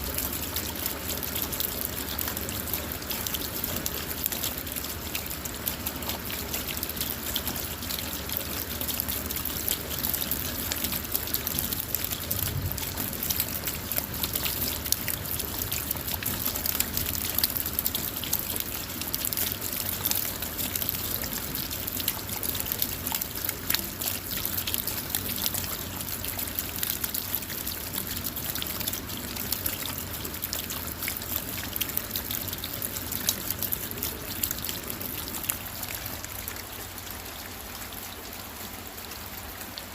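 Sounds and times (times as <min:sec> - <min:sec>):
rain pattering on a car: 0:00.0 - 0:39.9.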